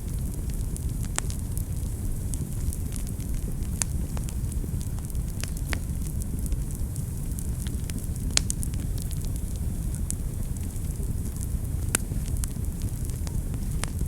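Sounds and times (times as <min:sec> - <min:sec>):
fire crackles and pops: 0:00.0 - 0:14.0
fire rumbling in fireplace: 0:00.0 - 0:14.0.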